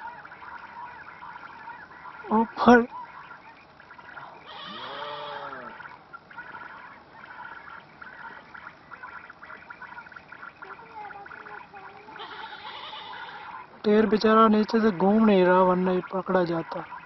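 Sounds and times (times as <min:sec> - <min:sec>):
animal drawn-out call: 0:00.0 - 0:13.8
faint chirping: 0:00.0 - 0:17.0.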